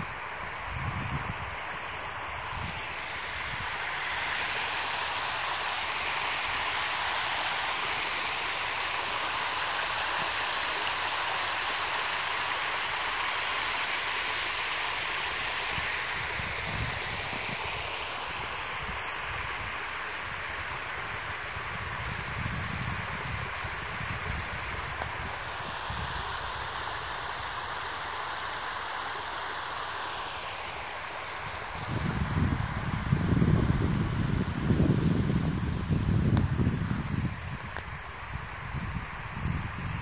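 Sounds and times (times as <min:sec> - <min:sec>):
water rushing: 0:00.0 - 0:40.0.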